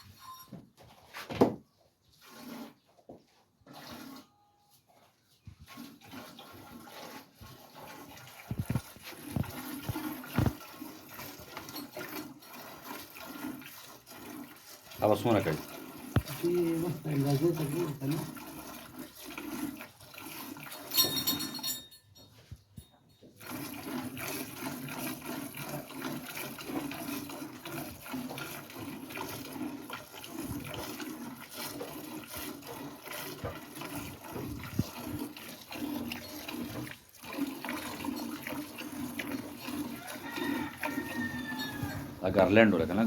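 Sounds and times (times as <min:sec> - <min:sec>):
liquid running and splashing: 0:05.7 - 0:21.3, 0:23.4 - 0:43.0.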